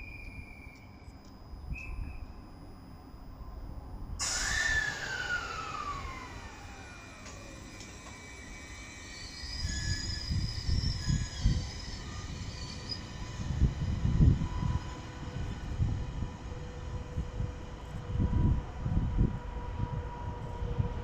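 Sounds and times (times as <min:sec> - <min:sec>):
electric train whine: 0:00.0 - 0:21.0.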